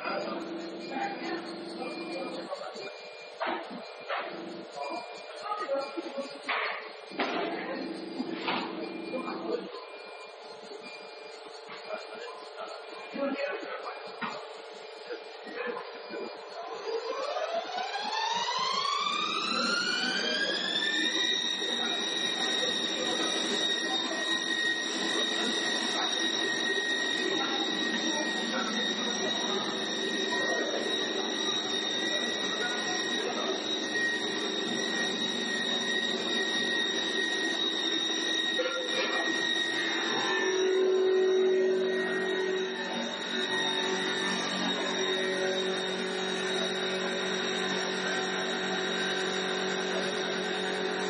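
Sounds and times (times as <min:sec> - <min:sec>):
lathe spindle motor whine: 0:00.0 - 0:51.0.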